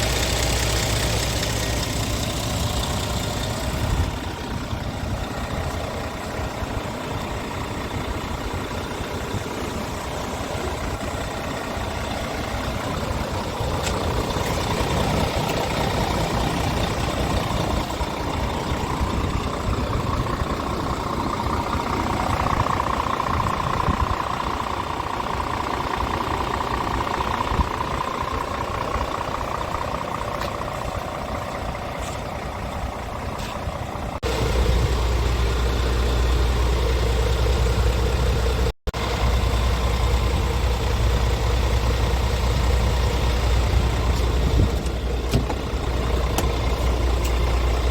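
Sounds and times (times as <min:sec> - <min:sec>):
diesel truck engine idling: 0:00.0 - 0:47.9.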